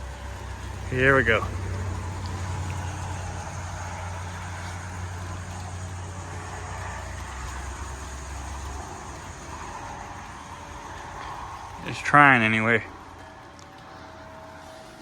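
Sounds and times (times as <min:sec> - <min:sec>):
strong wind buffeting microphone: 0:00.0 - 0:14.7.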